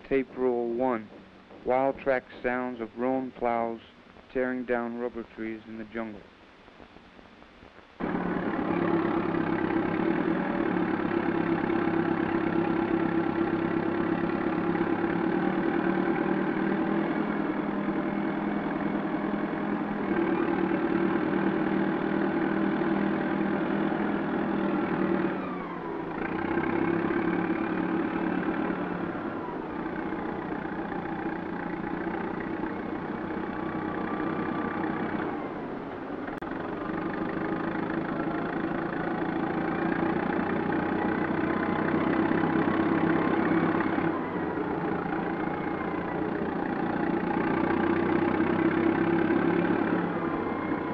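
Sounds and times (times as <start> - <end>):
bulldozer engine running: 8.0 - 50.9.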